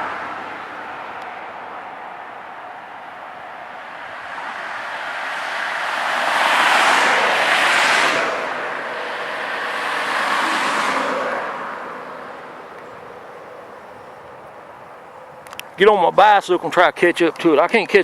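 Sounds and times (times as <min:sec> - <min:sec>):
cars passing by: 0:00.0 - 0:18.0.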